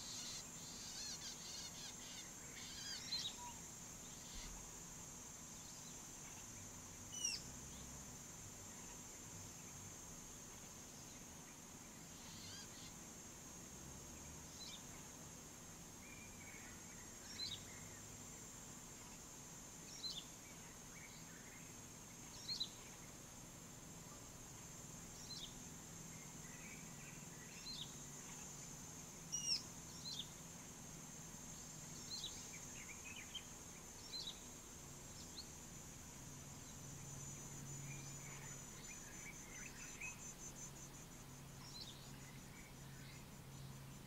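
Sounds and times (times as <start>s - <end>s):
faint low hum: 0.0s - 44.0s
high insect trill: 0.0s - 44.0s.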